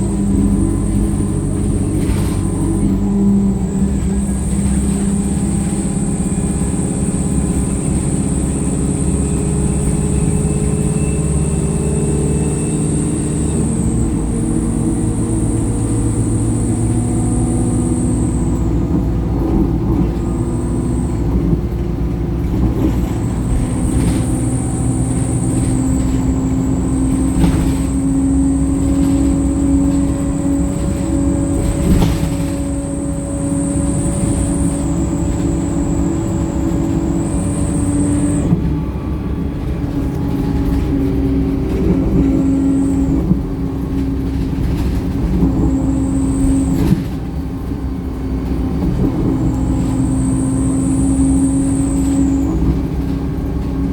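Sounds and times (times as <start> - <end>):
bus diesel engine drone: 0.0 - 53.9.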